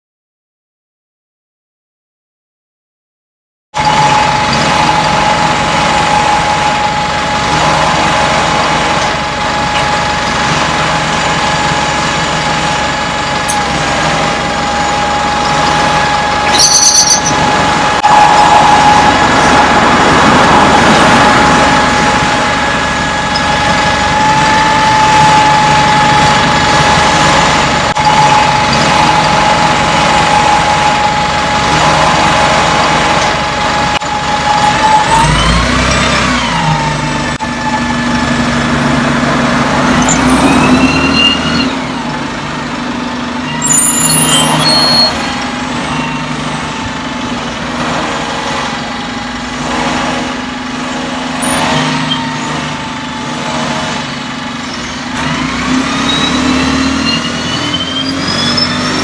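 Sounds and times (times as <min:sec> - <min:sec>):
diesel engine idling: 0:03.8 - 0:59.0
passing traffic whine: 0:03.8 - 0:59.0.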